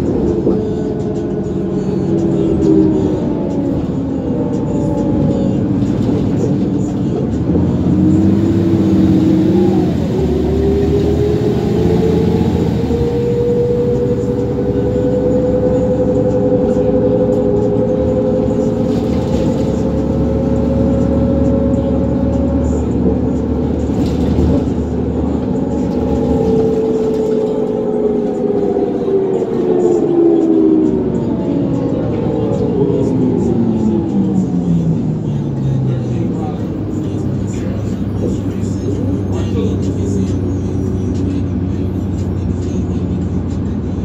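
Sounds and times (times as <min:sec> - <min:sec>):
bus drivetrain rumble and whine: 0:00.0 - 0:44.0.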